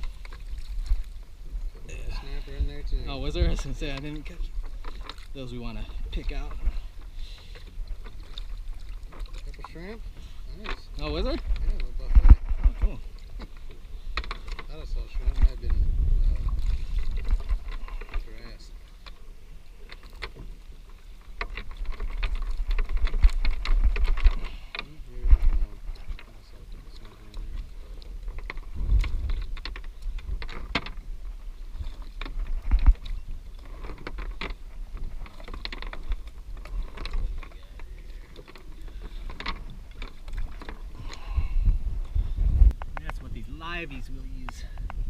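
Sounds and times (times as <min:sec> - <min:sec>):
fishing gear clicking and rattling: 0:00.0 - 0:45.0
wind rumble on microphone: 0:00.0 - 0:45.0.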